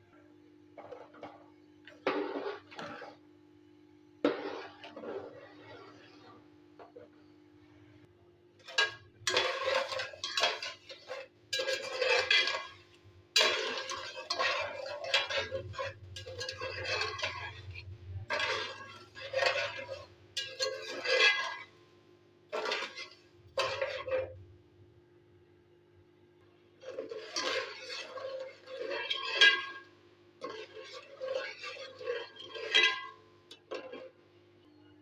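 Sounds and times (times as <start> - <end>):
metal spoon scraping a pot: 0.8 - 3.2, 4.2 - 7.3, 8.6 - 21.8, 22.5 - 24.4, 26.8 - 34.7.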